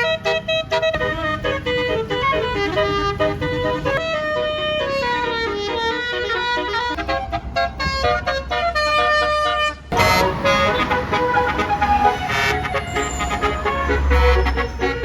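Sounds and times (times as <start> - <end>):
low engine rumble: 0.0 - 15.0
musical air horn: 0.0 - 15.0.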